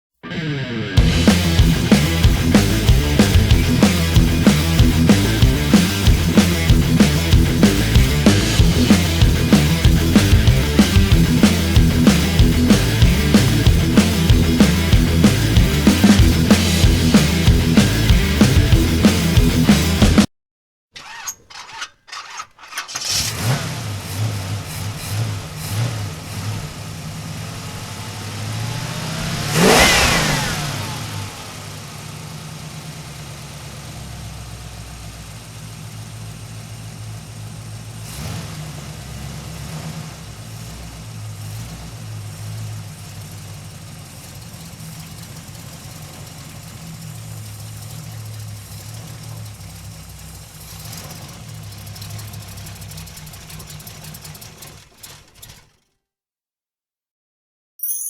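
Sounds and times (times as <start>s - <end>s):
car engine revving and idling: 1.0s - 20.3s, 23.0s - 55.6s.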